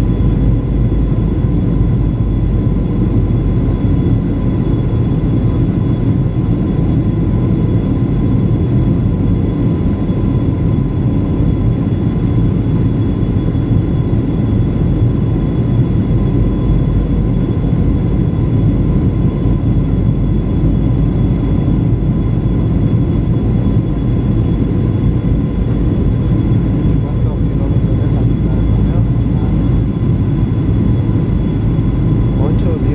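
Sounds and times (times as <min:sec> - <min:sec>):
airplane cabin rumble: 0:00.0 - 0:32.9.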